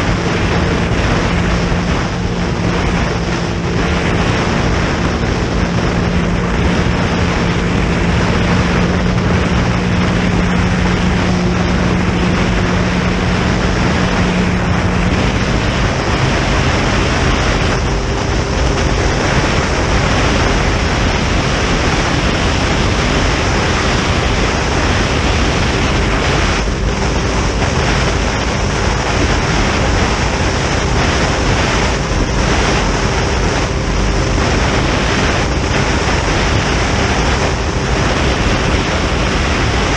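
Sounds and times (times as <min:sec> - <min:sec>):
outboard engine hum: 0:00.0 - 0:39.9
water rushing past hull: 0:00.0 - 0:39.9
wind buffeting microphone: 0:00.0 - 0:39.9.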